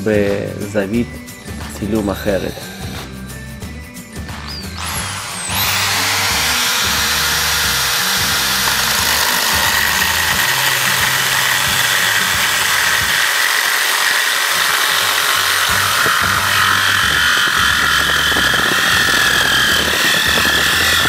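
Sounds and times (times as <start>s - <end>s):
electric drill whine: 1.2s - 21.0s
drill bit grinding through tile: 1.6s - 3.6s, 4.2s - 21.0s.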